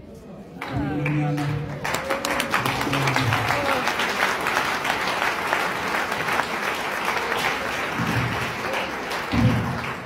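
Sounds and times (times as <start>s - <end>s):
crowd clapping in applause: 0.6s - 10.0s.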